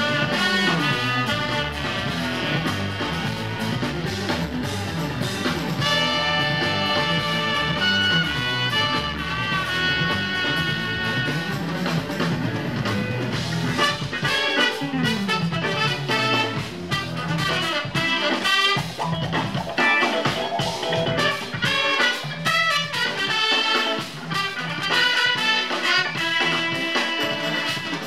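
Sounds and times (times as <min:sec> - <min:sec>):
jazz fusion band playing live: 0:00.0 - 0:28.0.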